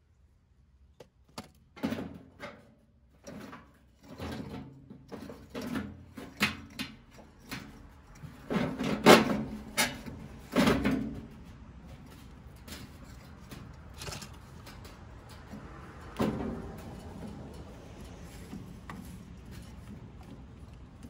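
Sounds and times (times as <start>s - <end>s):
sheet metal clunking on stone: 1.4s - 18.6s.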